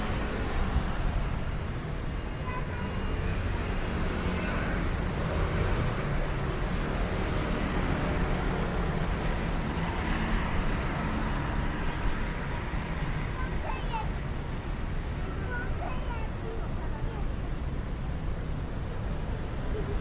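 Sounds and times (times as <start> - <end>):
traffic engines and tyres rumbling: 0.0 - 20.0
vehicles passing: 0.0 - 20.0.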